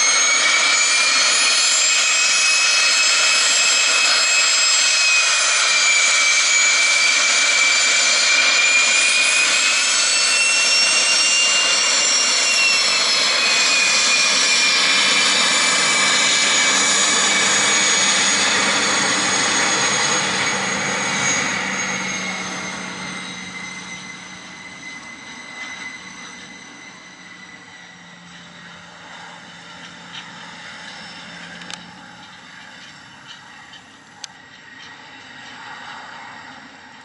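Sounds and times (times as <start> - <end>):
jet engines whining while taxiing: 0.0 - 37.0.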